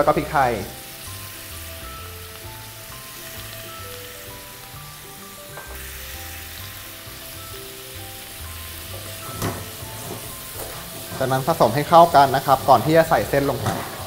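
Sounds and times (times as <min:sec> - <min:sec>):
food sizzling in a pan: 0:00.0 - 0:14.0
soft background music: 0:00.0 - 0:14.0.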